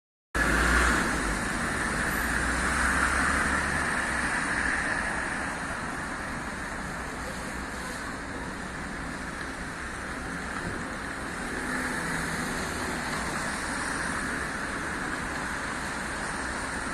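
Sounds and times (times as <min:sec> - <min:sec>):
cars going by: 0:00.4 - 0:16.9.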